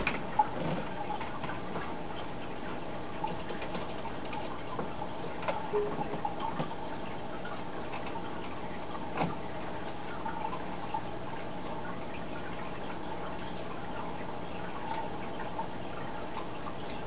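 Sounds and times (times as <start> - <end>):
aquarium water noise: 0.0 - 17.0.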